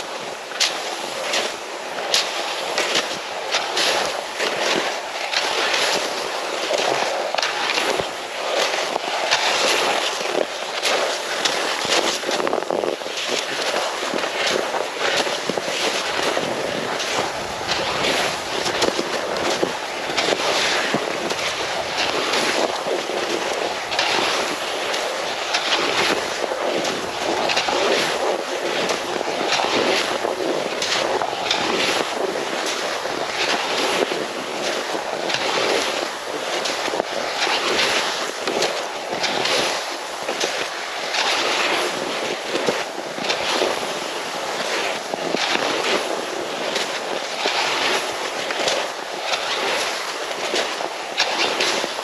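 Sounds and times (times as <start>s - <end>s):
skis scraping over granular snow: 0.0s - 52.0s.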